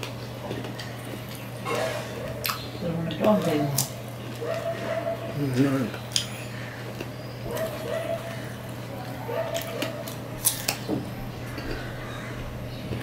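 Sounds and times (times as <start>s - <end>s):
person chewing crisp fruit: 0.0s - 13.0s
steady low hum: 0.0s - 13.0s.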